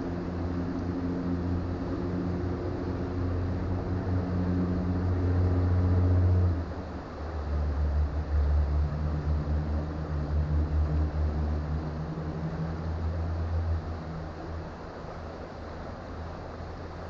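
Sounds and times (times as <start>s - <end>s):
creek water running: 0.0s - 17.0s
low engine drone: 0.0s - 17.0s.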